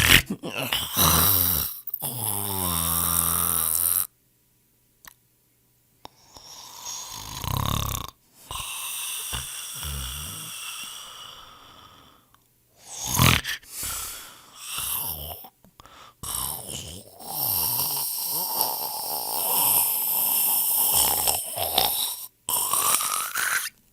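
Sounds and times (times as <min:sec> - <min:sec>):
loud snort: 0:00.0 - 0:04.1, 0:06.4 - 0:12.2, 0:12.8 - 0:15.5, 0:16.2 - 0:23.8
person snoring: 0:00.0 - 0:04.1, 0:06.1 - 0:23.8.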